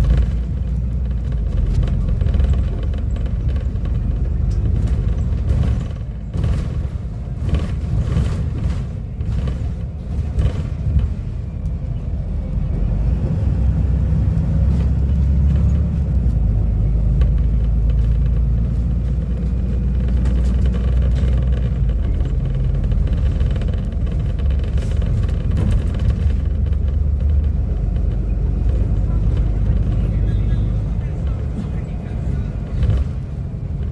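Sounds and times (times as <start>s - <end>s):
bus diesel engine rumbling: 0.0s - 33.9s.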